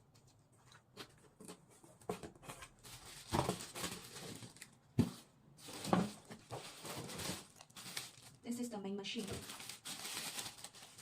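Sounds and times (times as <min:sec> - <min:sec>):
packaging rustling: 0:02.1 - 0:11.0.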